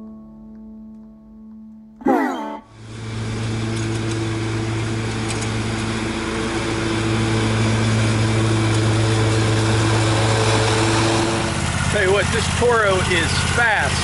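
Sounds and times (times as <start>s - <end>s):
lawn mower engine running: 2.8s - 14.0s.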